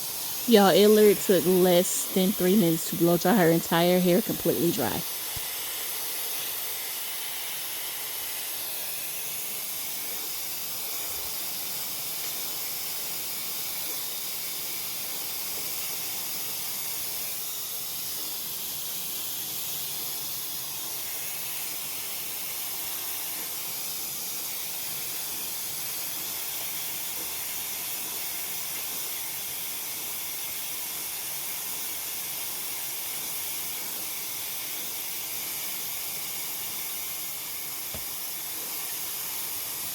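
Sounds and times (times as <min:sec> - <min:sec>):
hair dryer running: 0:00.0 - 0:30.6, 0:33.0 - 0:39.9.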